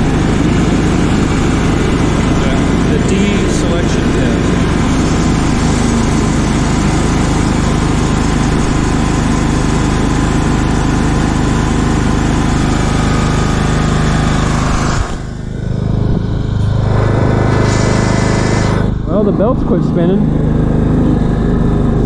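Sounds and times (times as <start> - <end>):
lawn tractor running: 0.0 - 22.0
mower deck cutting: 0.0 - 22.0.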